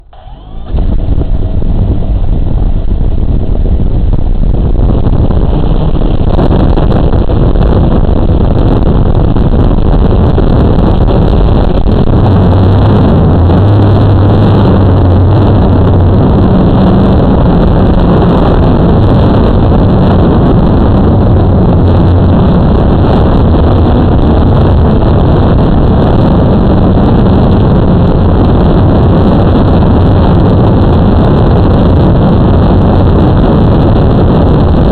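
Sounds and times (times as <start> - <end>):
wind on microphone: 0.0 - 34.9.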